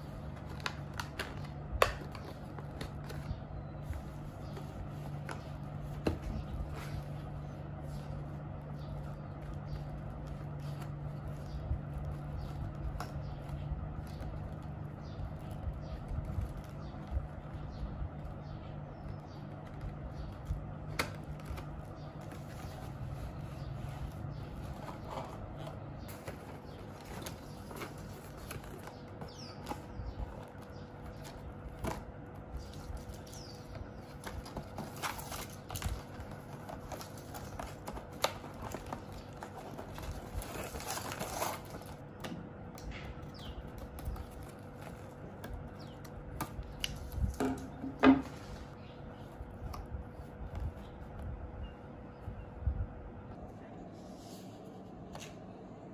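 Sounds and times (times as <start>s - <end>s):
paper and card rustling: 0.0s - 17.7s, 19.4s - 42.3s, 43.2s - 47.6s.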